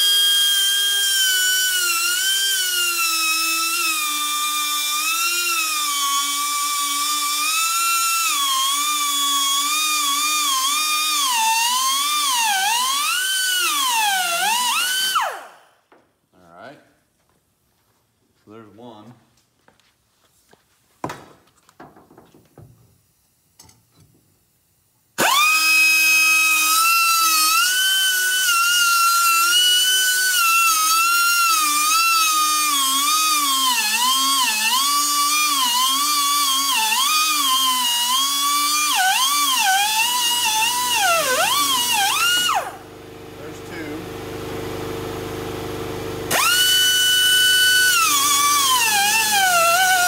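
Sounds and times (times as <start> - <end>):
cut-off wheel whining: 0.0 - 15.8, 25.2 - 50.0.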